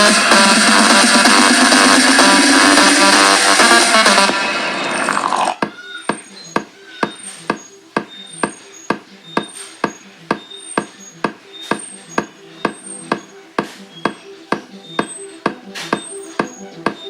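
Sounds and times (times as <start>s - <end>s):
electronic beat with sharp clicks: 0.0s - 4.4s, 5.6s - 17.0s.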